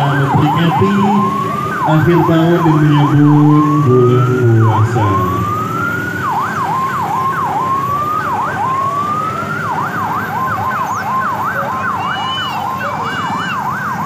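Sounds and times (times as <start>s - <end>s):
electronic siren wailing: 0.0s - 14.0s.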